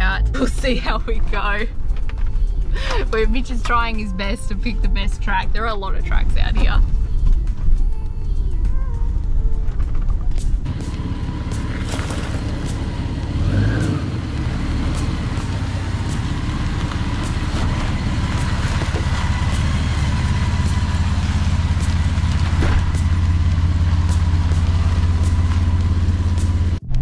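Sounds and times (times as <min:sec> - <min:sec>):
off-road vehicle engine rumbling: 0:00.0 - 0:27.0.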